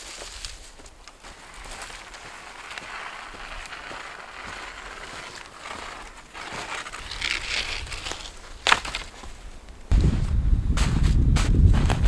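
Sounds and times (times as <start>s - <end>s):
branches dragged across snow: 0.0s - 11.1s
footsteps crunching in snow: 0.0s - 12.0s.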